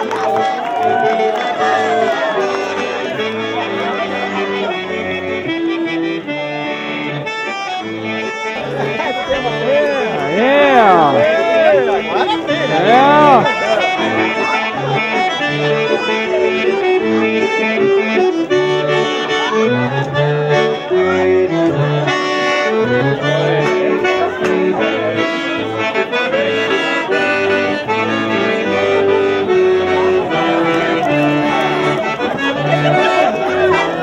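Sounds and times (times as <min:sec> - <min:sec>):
accordion playing lively tune: 0:00.0 - 0:34.0.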